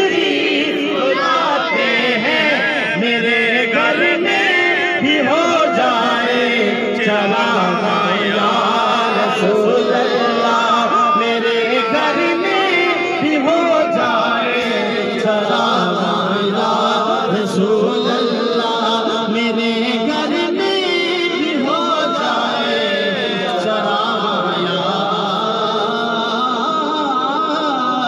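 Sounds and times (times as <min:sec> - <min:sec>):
man singing into a microphone: 0:00.0 - 0:28.0.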